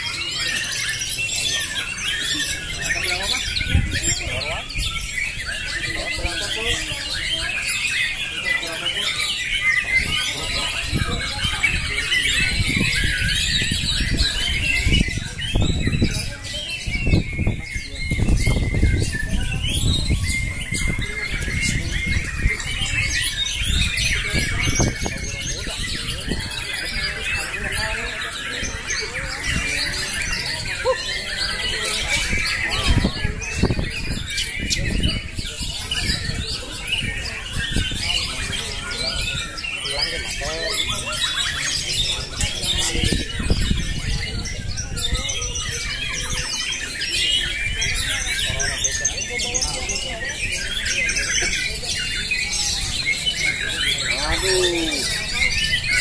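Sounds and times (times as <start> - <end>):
birds singing chirps and trills: 0.0 - 56.0
people's voices: 0.0 - 56.0.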